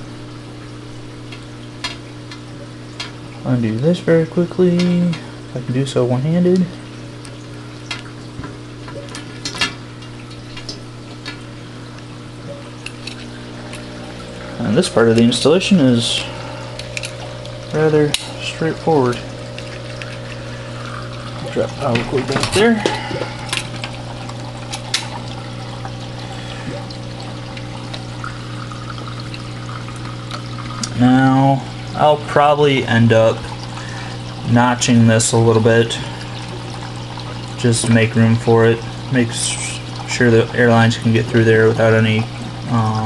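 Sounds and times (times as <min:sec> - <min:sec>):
aquarium water trickling: 0:00.0 - 0:43.0
steady hum: 0:00.0 - 0:43.0.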